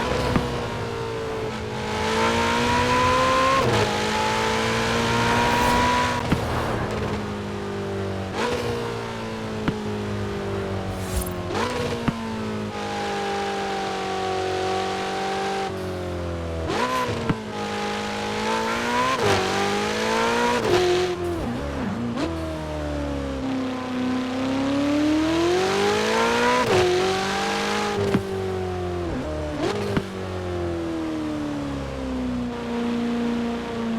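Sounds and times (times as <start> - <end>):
sports car engine revving: 0.0 - 33.9.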